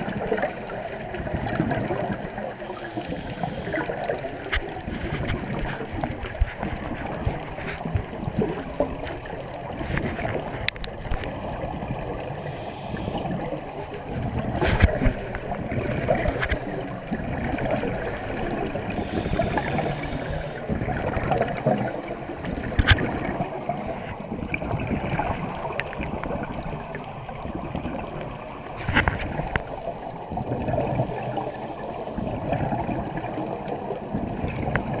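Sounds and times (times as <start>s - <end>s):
underwater air bubbling: 0.0s - 35.0s.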